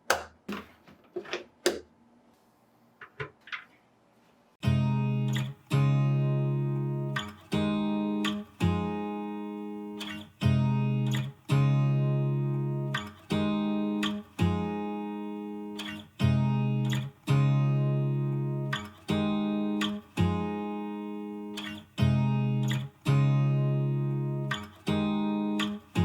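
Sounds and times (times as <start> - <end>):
acoustic guitar chords strummed: 4.6 - 26.0.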